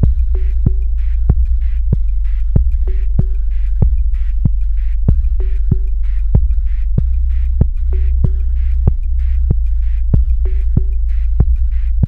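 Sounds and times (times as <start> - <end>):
kick drum: 0.0 - 11.8
deep bass drone: 0.0 - 12.0.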